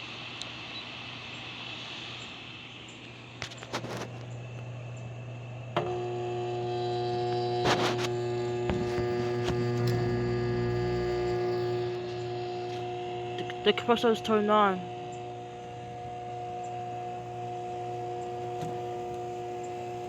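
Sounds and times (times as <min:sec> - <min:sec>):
air conditioner compressor hum: 0:00.0 - 0:20.0
low hum: 0:03.0 - 0:20.0.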